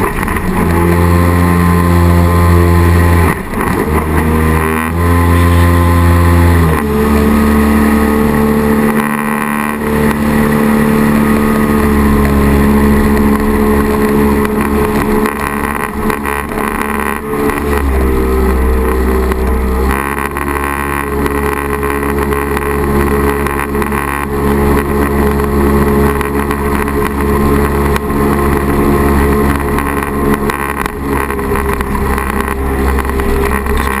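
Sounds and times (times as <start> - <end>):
jet boat engine running: 0.0 - 34.0.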